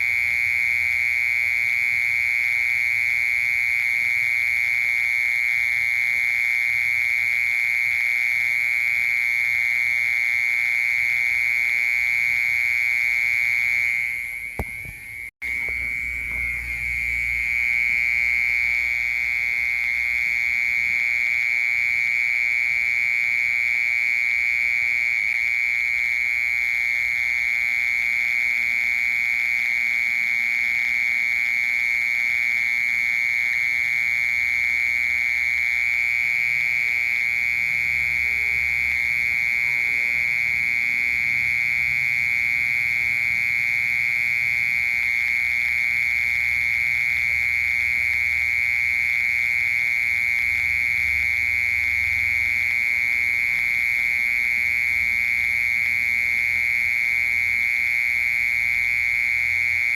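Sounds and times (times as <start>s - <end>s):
cricket trilling: 0.0s - 59.9s.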